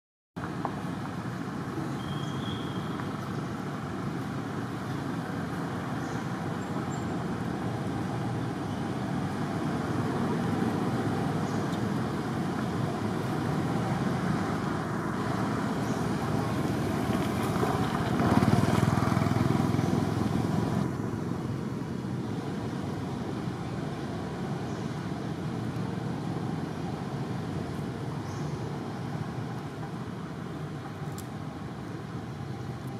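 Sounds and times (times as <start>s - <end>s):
distant road traffic rumble: 0.4s - 32.9s.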